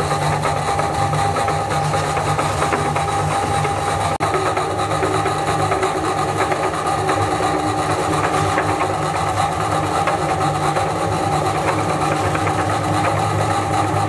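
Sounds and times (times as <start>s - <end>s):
meat grinder motor running: 0.0s - 14.0s.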